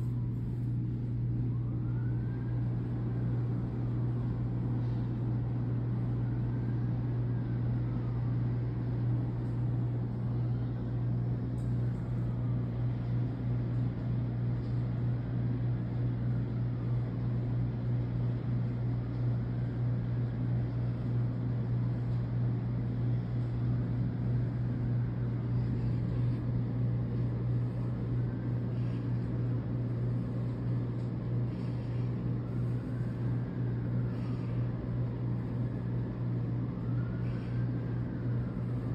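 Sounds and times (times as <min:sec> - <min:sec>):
distant wailing siren: 0:00.0 - 0:38.9
steady low hum: 0:00.0 - 0:38.9.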